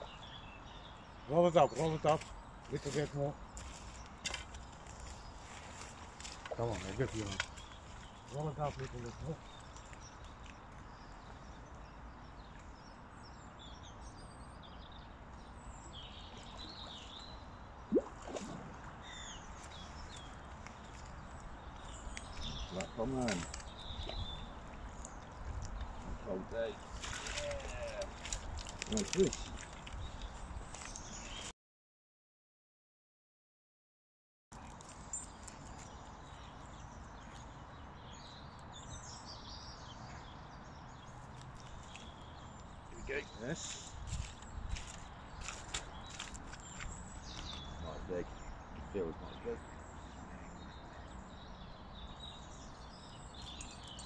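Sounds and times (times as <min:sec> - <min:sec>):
small birds chirping: 0:00.0 - 0:31.5, 0:34.6 - 0:54.0.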